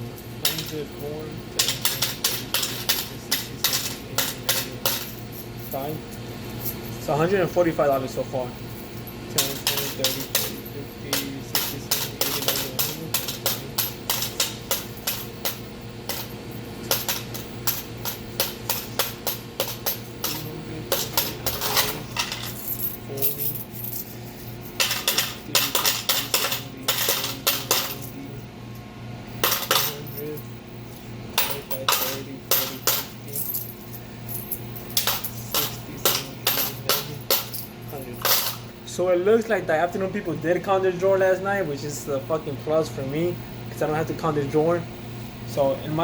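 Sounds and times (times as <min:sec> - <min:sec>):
coins clinking: 0:00.0 - 0:38.8.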